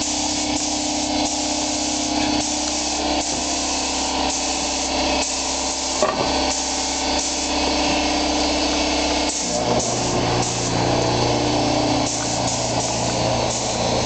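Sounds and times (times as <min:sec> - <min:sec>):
exhaust fan humming: 0:00.0 - 0:14.0
paint spray gun hissing: 0:00.0 - 0:14.0.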